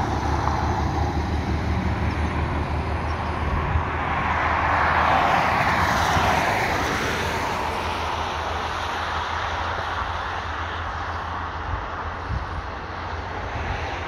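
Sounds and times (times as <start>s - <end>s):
car tyres on wet road: 0.0s - 14.0s
low rumble of distant traffic: 0.0s - 14.0s.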